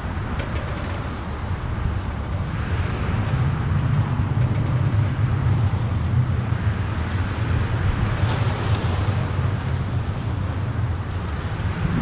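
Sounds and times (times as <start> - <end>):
wind buffeting on microphone: 0.0 - 12.0.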